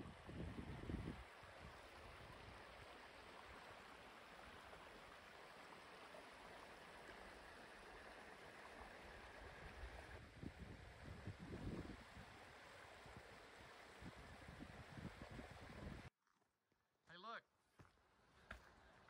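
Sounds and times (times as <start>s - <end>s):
creek water trickling over rocks: 0.0s - 16.1s.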